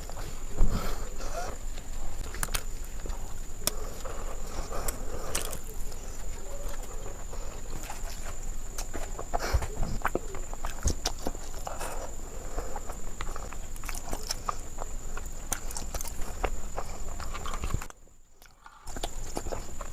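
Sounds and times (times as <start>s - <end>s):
faint high-pitched whine: 0.0s - 19.9s
wet chewing clicks and smacks: 0.0s - 19.9s.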